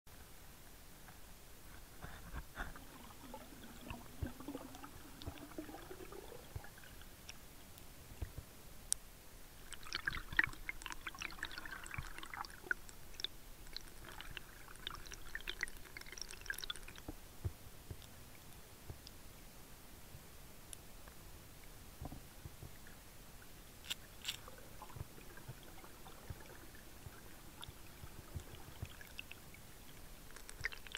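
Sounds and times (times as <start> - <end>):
underwater clicks and crackles: 1.0 - 19.4, 20.6 - 30.9.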